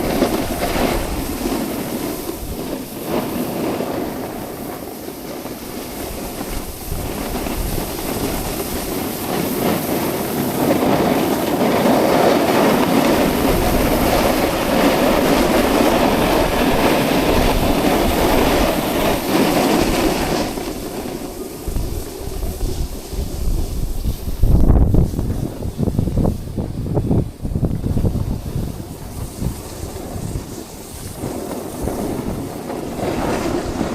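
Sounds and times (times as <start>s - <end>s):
snowboard scraping over snow: 0.0s - 33.9s
wind rumbling on microphone: 0.0s - 33.9s.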